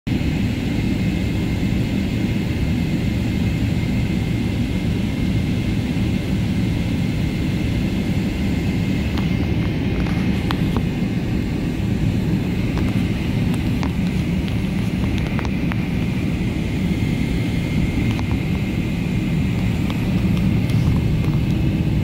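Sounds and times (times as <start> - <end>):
jet engine rumble with fan whine: 0.1 - 22.0.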